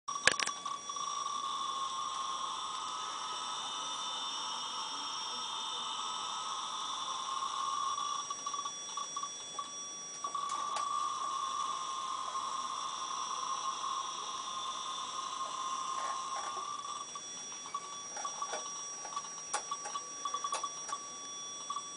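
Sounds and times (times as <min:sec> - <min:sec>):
piezo speaker buzzing tone: 0:00.1 - 0:21.9.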